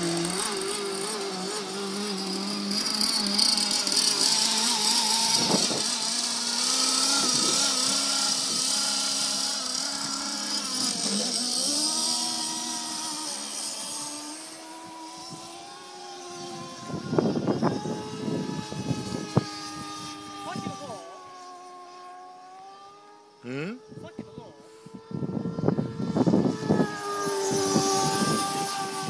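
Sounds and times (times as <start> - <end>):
model boat engine: 0.0 - 29.0.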